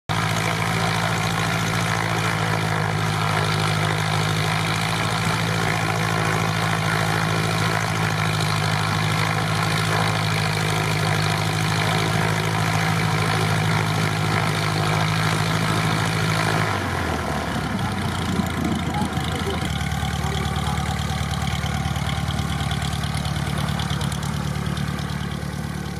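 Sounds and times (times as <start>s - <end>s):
light aircraft engine and propeller: 0.1s - 25.9s.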